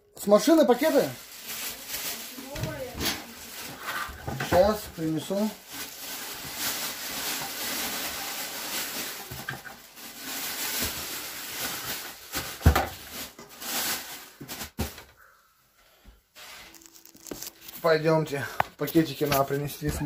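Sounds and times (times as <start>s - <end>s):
rustling handling noise: 0.3s - 15.1s, 16.4s - 20.0s.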